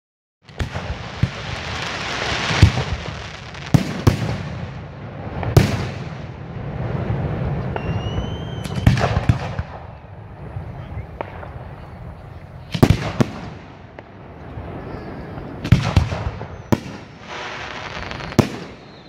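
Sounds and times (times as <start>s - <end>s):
fireworks crackling: 0.4s - 19.0s
rising firework whistle: 0.5s - 12.0s, 14.2s - 19.0s.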